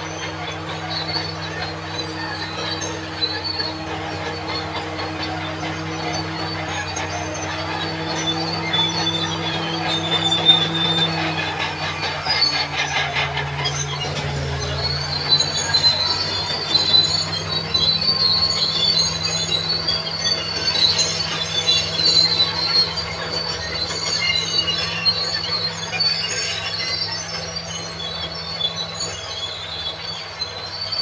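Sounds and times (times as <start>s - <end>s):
diesel engine running: 0.0s - 31.0s
metal squeal of steel tracks: 0.0s - 31.0s.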